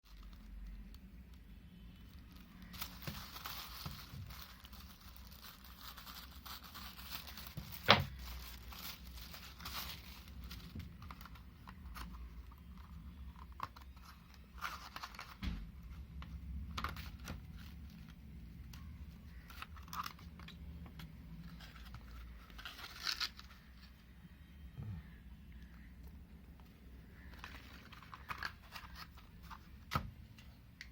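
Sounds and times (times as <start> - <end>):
packaging rustling and crinkling: 2.0 - 24.0, 26.6 - 30.0.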